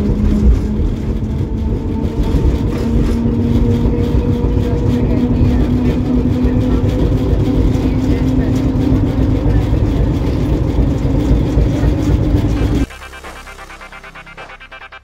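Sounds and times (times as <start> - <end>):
wheels rumbling on rails: 0.0 - 13.2
tram motor whine: 0.0 - 15.0.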